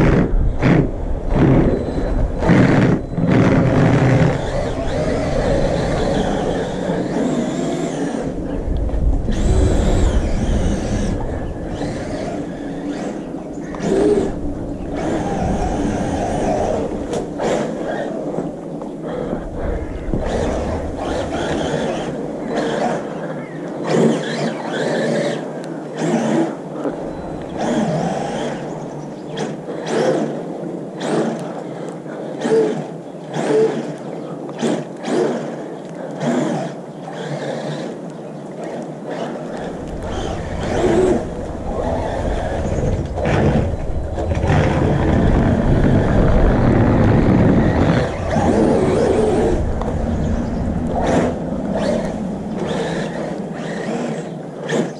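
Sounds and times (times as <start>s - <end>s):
wind rumble on microphone: 0.0s - 35.7s, 36.4s - 54.9s.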